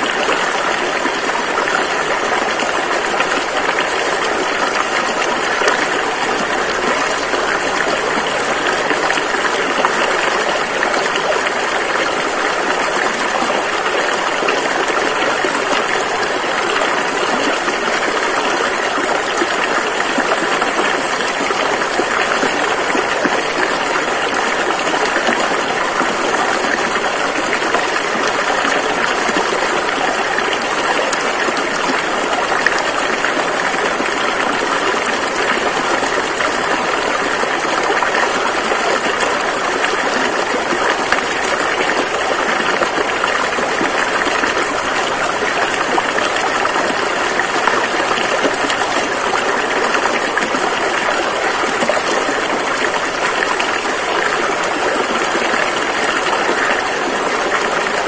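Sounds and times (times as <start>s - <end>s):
rushing river: 0.0s - 58.0s.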